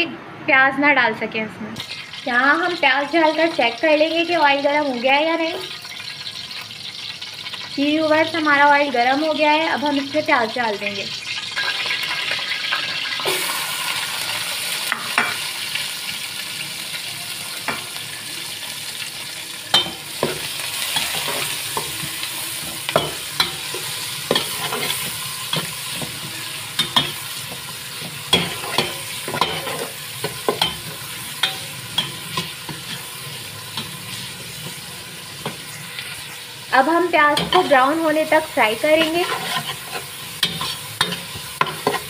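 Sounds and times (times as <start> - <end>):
onions sizzling in hot oil: 1.8 - 42.0.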